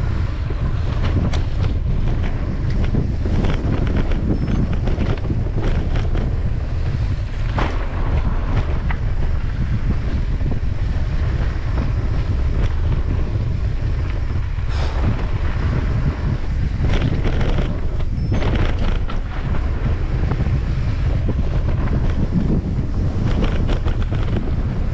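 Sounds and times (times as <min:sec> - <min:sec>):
bike rattling over rough trail: 0:00.0 - 0:24.9
wind buffeting microphone: 0:00.0 - 0:24.9.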